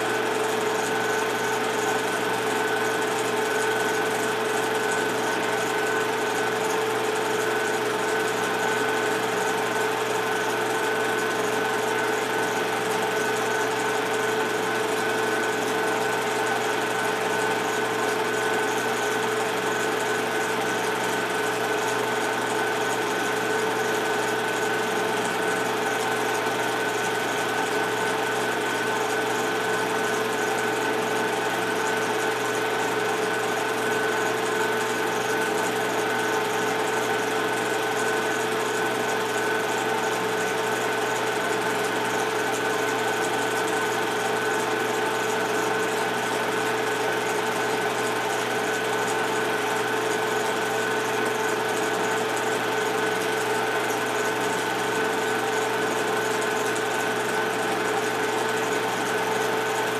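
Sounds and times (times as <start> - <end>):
movie projector whirring: 0.0 - 59.9.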